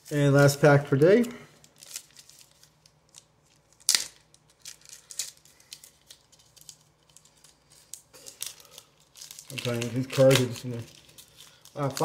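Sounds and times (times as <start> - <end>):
faint steady hum: 0.0 - 12.0
foil card pack rustling: 0.0 - 12.0.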